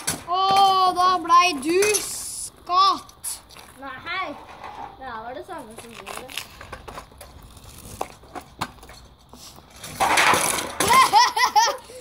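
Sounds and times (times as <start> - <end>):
scooter scraping on asphalt: 0.0 - 12.0.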